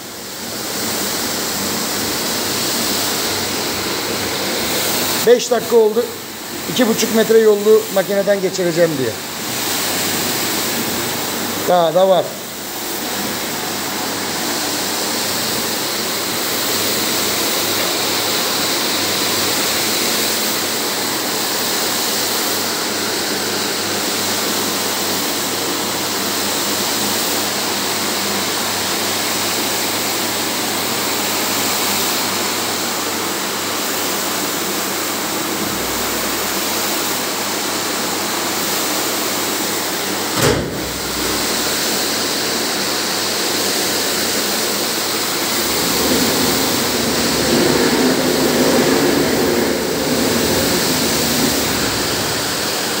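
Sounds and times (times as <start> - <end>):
rotating brushes scrubbing rug: 0.5 - 23.4, 30.8 - 38.7, 40.0 - 53.0.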